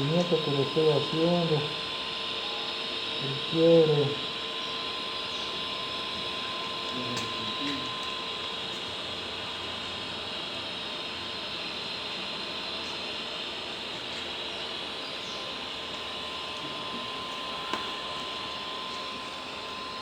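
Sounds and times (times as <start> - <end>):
thin constant tone: 0.0 - 20.0.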